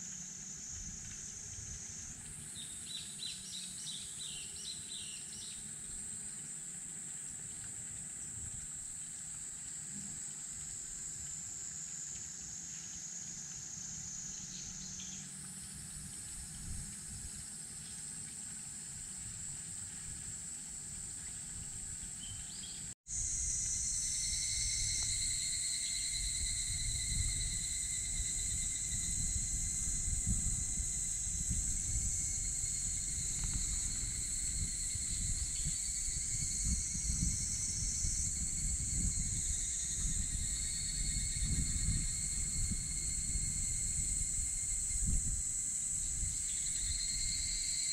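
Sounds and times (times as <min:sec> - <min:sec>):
high-pitched insect songs: 0:00.0 - 0:47.9
lower-pitched insect tones: 0:00.0 - 0:47.9.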